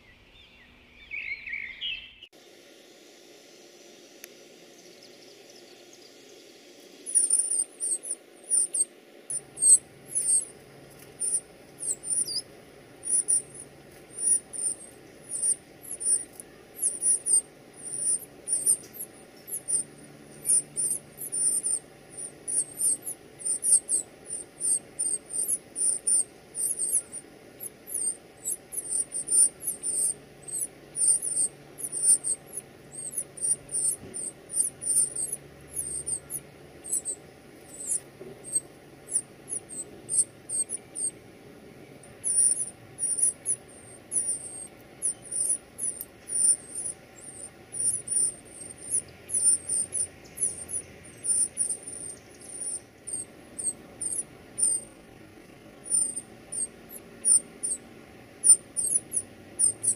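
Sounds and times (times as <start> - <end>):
nestlings cheeping: 5.4 - 59.9.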